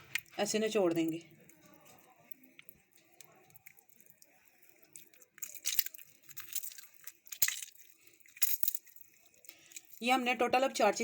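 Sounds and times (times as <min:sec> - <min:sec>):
lemon squeezing squelch: 0:00.0 - 0:10.0.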